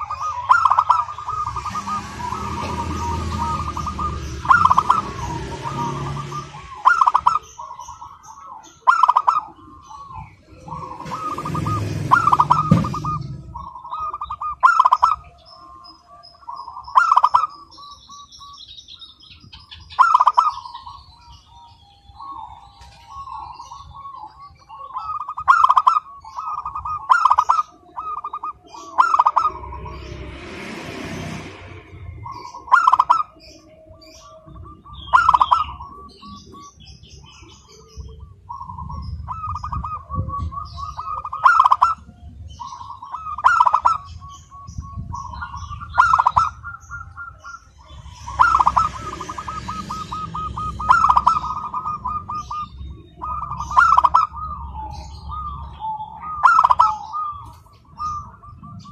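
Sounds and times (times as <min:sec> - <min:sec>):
dove cooing: 0:00.0 - 0:18.6, 0:19.5 - 0:30.1, 0:32.2 - 0:58.9
small birds chirping: 0:00.0 - 0:58.9.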